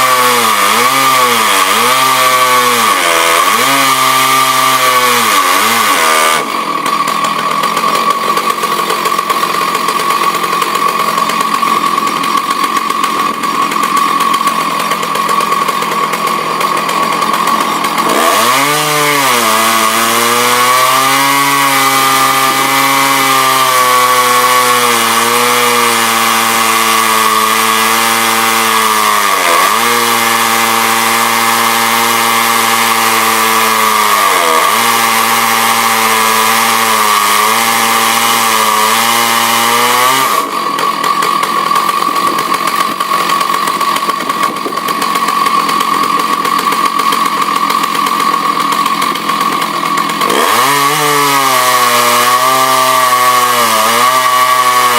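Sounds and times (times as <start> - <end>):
chainsaw running at high revs: 0.0 - 54.9.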